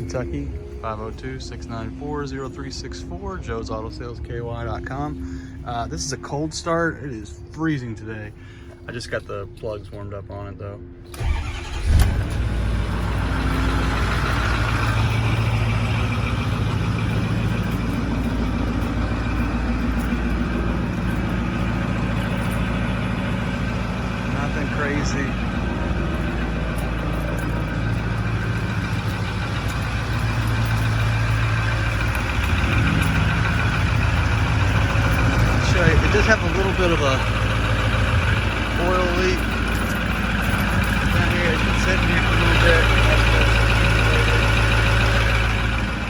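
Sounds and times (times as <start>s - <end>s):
diesel engine idling: 0.0s - 9.6s, 11.1s - 46.0s
diesel engine cranking: 0.0s - 9.7s, 11.1s - 46.0s.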